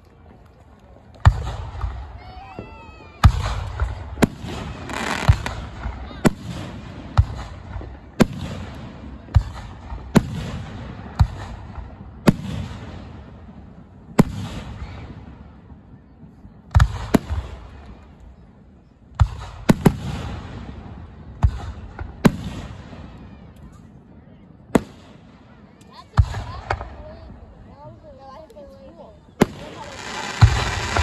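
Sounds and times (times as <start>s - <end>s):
fireworks bursting with echo: 0.1s - 31.0s.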